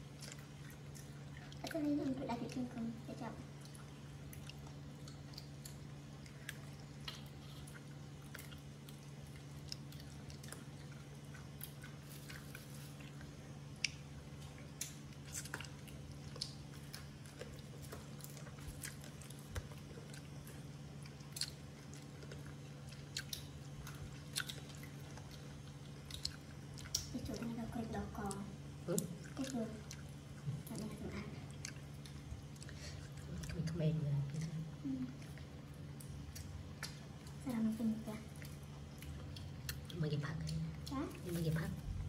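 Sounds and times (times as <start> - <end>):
low hum: 0.0 - 42.0
wet chewing smacks and clicks: 3.5 - 37.4, 38.3 - 41.3.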